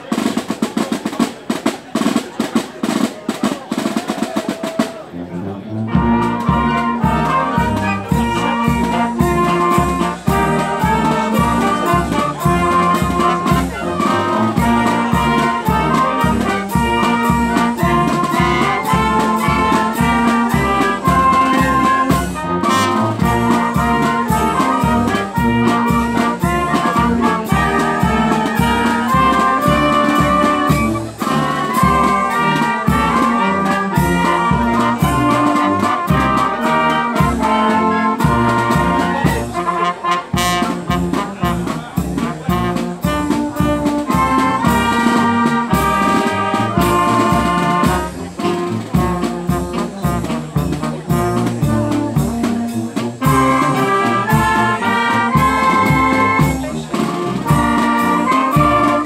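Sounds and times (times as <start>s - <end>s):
wind band playing: 0.0s - 59.0s
bass drum beat: 6.0s - 39.8s, 40.4s - 59.0s.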